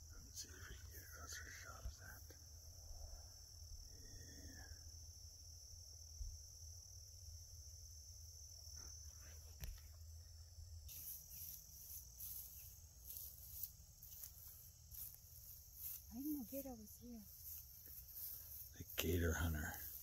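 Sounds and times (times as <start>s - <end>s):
insects pulsing chirping: 0.0s - 20.0s
insects trilling: 0.0s - 20.0s.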